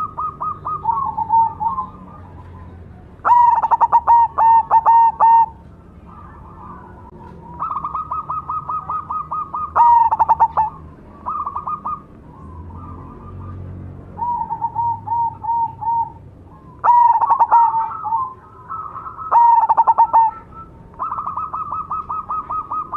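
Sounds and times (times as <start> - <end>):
dove cooing: 0.0 - 22.9.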